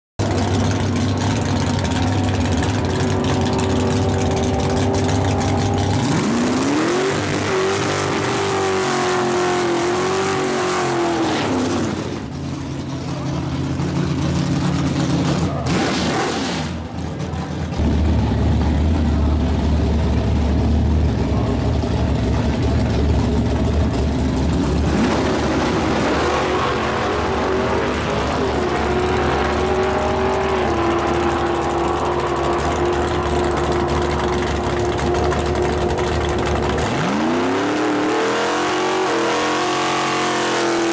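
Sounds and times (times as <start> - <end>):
drag car engine revving: 0.2 - 40.9.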